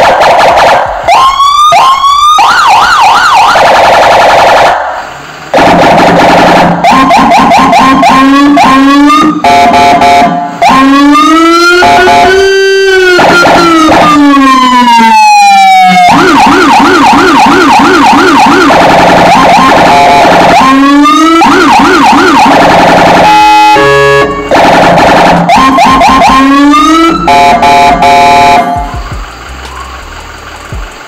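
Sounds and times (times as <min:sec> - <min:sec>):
electronic vehicle siren: 0:00.0 - 0:04.8, 0:05.5 - 0:29.2.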